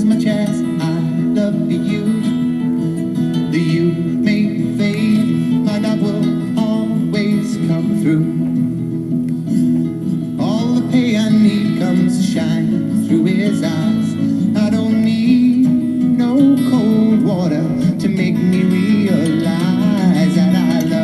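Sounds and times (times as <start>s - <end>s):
acoustic guitar song: 0.0s - 21.0s.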